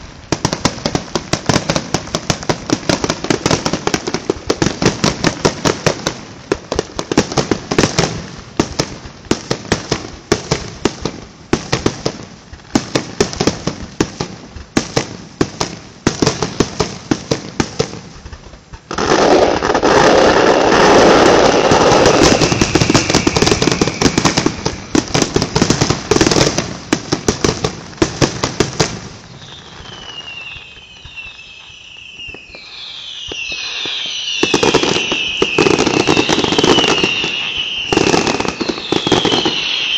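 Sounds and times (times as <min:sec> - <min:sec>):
fireworks cracking and popping: 0:00.0 - 0:39.9
fireworks crackling: 0:00.0 - 0:39.9
whistling fireworks: 0:00.0 - 0:39.9.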